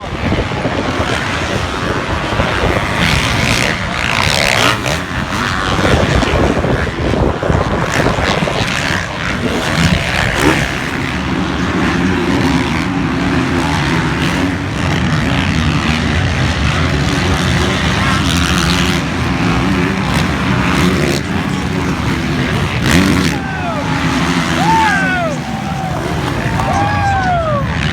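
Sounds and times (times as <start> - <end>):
motocross bike engines revving: 0.0 - 27.9.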